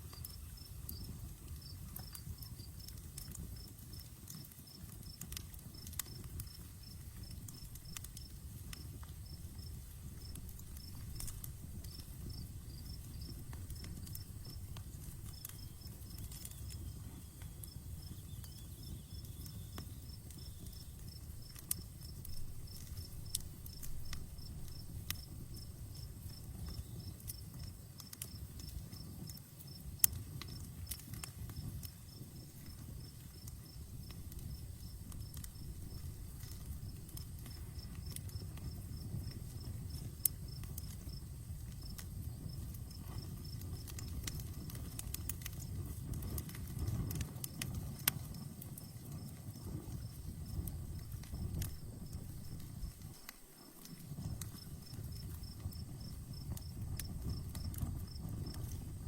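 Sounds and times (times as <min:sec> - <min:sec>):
campfire crackling and popping: 0:00.0 - 0:59.0
low rush of fire: 0:00.0 - 0:59.0
crickets chirping: 0:00.2 - 0:04.1, 0:04.7 - 0:30.7, 0:31.5 - 0:44.6, 0:48.3 - 0:59.0.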